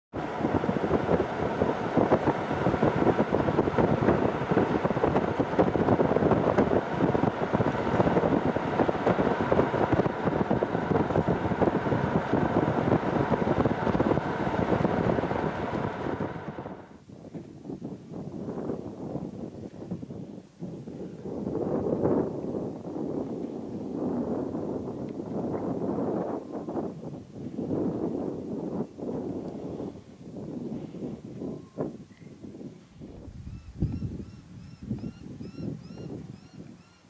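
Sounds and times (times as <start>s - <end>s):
wind buffeting microphone: 0.1s - 37.0s.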